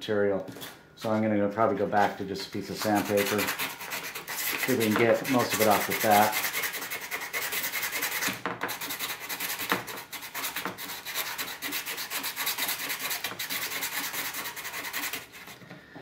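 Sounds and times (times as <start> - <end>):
sandpaper scraping plastic: 2.0 - 15.6.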